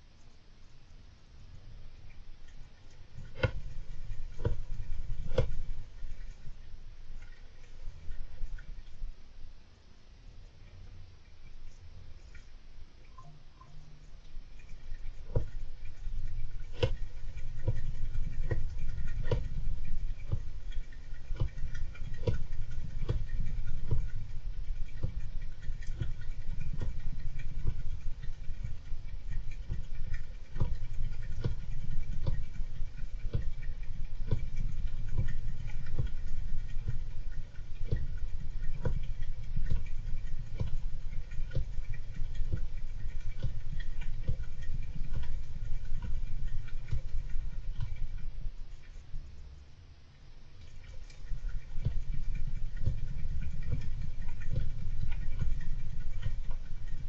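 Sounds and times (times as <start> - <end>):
continuous low rumble: 0.0 - 57.0
hamster scrabbling and scratching: 2.0 - 9.1, 14.4 - 49.2, 50.6 - 57.0.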